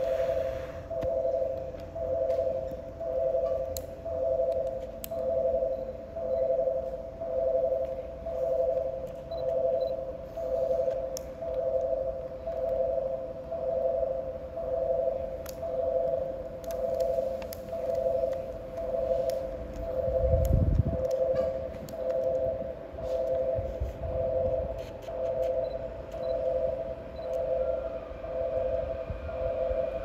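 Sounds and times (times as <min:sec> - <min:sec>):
electronic two-tone warning beep: 0:00.0 - 0:30.0.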